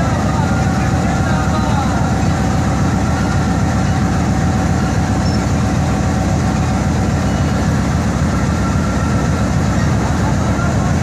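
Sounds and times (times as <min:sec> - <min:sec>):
locomotive engine idling: 0:00.0 - 0:11.0
thin steady whine: 0:00.0 - 0:11.0.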